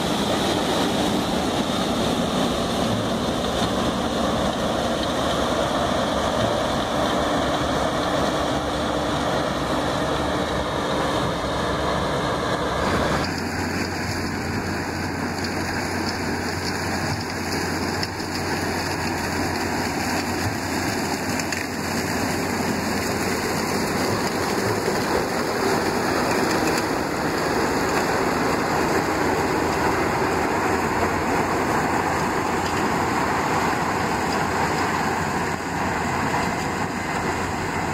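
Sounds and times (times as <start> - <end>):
combine harvester engine and threshing: 0.0 - 37.9.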